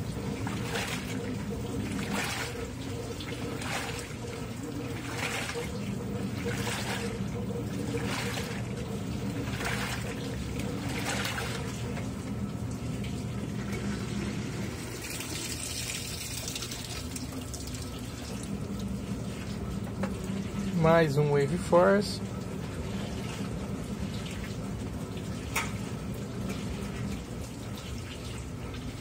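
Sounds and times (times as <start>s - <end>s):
motor hum: 0.0s - 29.0s
washing machine churning water: 0.0s - 29.0s.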